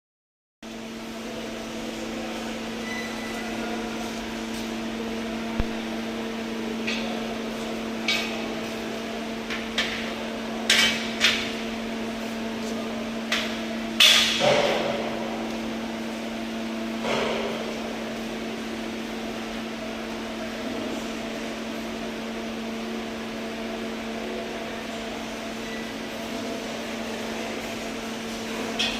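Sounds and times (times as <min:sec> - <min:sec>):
steady machine hum: 0:00.6 - 0:28.9.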